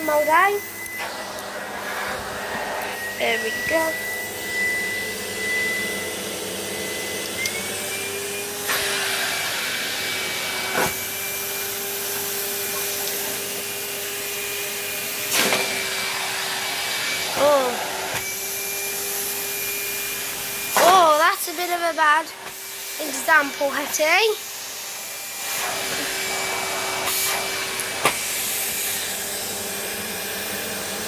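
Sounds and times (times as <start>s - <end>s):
vacuum cleaner motor whining: 0.0s - 31.0s.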